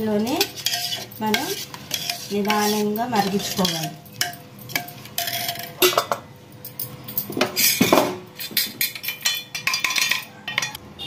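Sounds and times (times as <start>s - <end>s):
spoon clinking against a pot: 0.1s - 10.8s.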